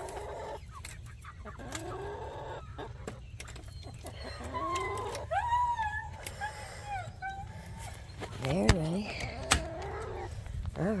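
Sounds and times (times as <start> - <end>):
chickens clucking: 0.0 - 11.0
drawn-out rising chicken calls: 0.0 - 11.0.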